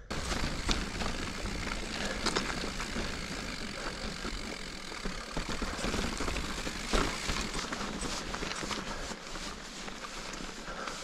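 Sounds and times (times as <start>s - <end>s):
bike knocks and rattles: 0.0s - 10.5s
bike tyre noise on dirt trail: 0.0s - 11.0s.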